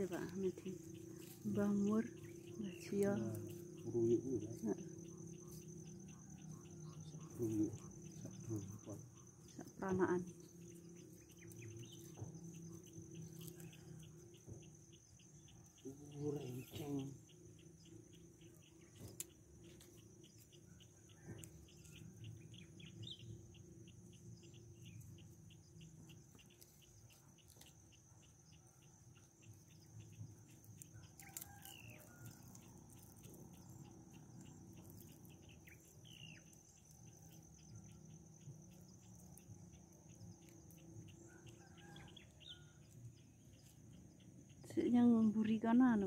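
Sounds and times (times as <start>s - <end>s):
insect pulsing: 0.0s - 46.0s.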